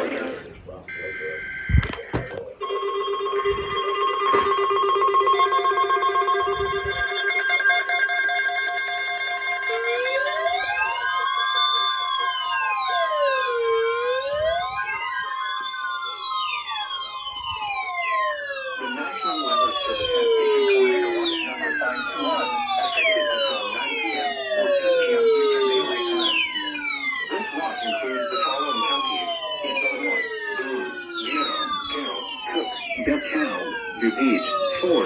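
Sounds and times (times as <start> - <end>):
steady warning tone: 0.0 - 35.0
beeping alarm tones: 0.8 - 35.0
rising and falling siren wail: 3.5 - 35.0.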